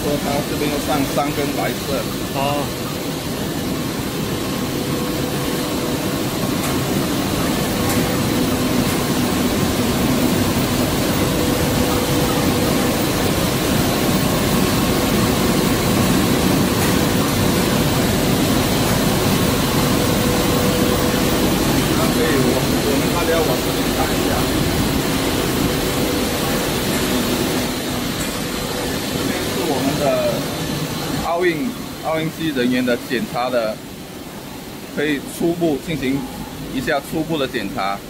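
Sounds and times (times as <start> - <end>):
printing press running: 0.0 - 38.0.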